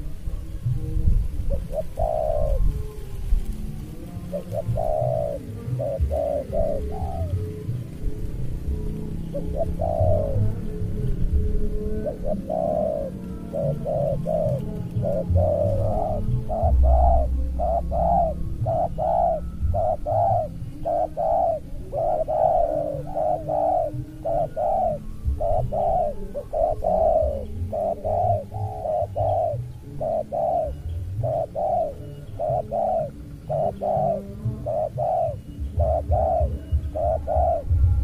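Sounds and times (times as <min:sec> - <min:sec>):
doves cooing: 0:00.0 - 0:38.0.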